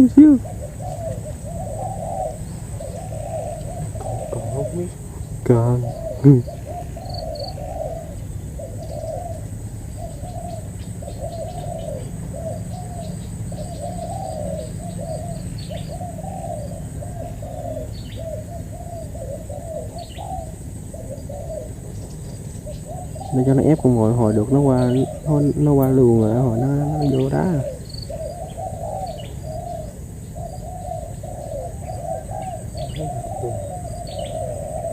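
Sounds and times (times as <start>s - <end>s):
dove cooing: 0.0s - 34.9s
high insect-like whine: 0.0s - 34.9s
small birds chirping: 0.0s - 34.9s.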